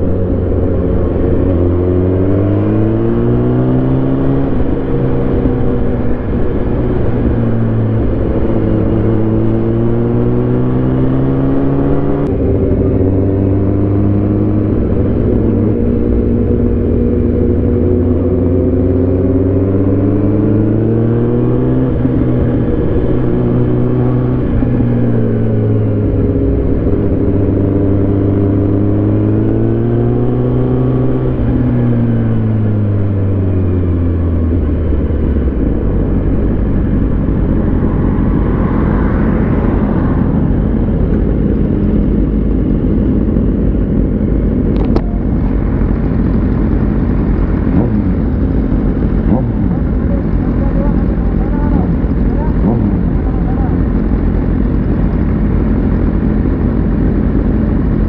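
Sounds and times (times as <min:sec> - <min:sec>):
motorcycle engine revving and idling: 0:00.0 - 0:58.0.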